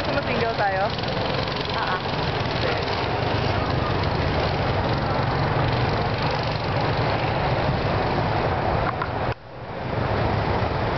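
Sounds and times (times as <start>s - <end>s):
go-kart engines droning: 0.0s - 10.9s.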